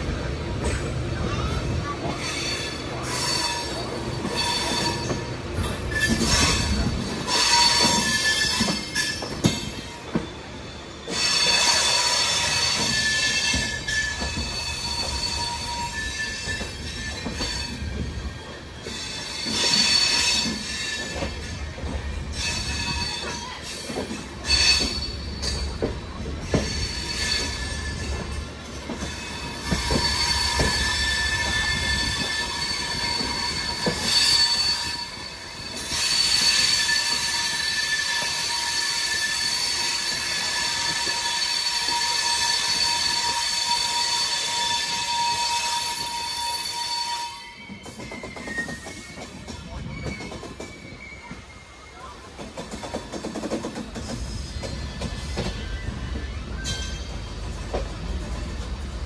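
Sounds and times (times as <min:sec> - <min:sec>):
train wheels squealing on rails: 0:00.0 - 0:59.0.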